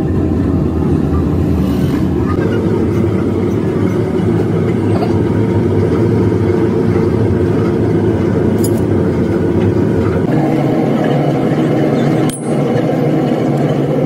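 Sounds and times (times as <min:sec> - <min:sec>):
motor running loudly: 0:00.0 - 0:14.0.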